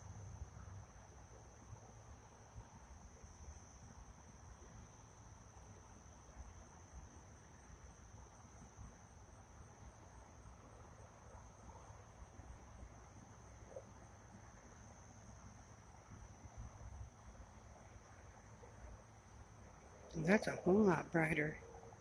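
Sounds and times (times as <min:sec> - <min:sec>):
insect chorus drone: 0:00.0 - 0:22.0.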